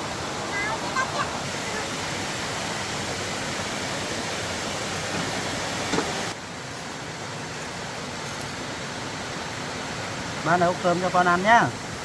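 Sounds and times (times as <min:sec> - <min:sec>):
rushing water hiss: 0:00.0 - 0:12.0.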